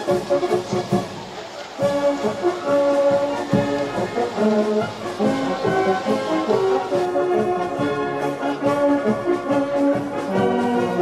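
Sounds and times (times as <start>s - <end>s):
brass band playing held chords: 0.0s - 11.0s.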